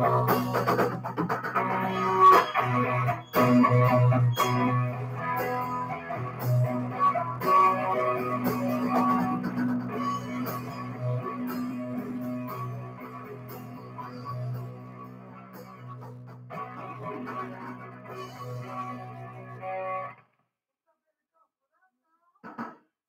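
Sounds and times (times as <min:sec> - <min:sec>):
live band with electric guitar: 0:00.0 - 0:20.2.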